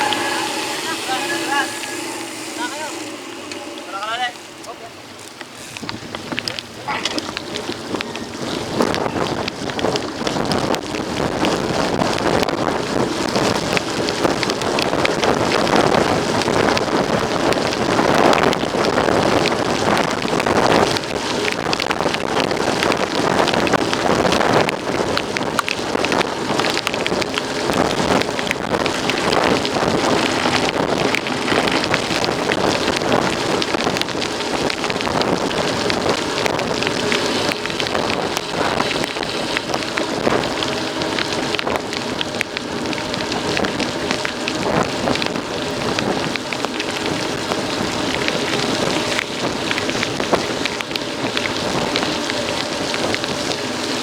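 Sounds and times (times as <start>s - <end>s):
wind buffeting microphone: 0.0s - 54.0s
bike tyres rattling on rough ground: 3.2s - 54.0s.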